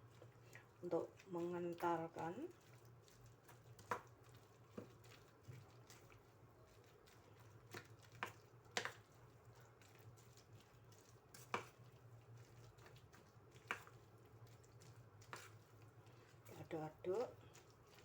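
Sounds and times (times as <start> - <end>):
spoon stirring thick batter: 0.0 - 18.0.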